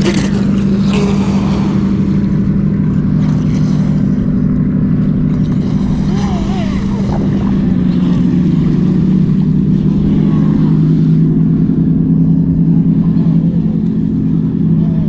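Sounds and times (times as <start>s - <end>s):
loud low machinery drone: 0.0s - 15.0s.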